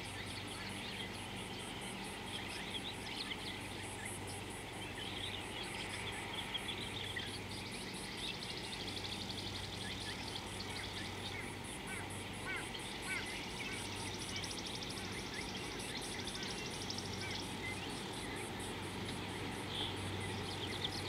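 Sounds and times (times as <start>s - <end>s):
bird trill: 0.0s - 18.6s
insect high pulsing call: 0.0s - 21.0s.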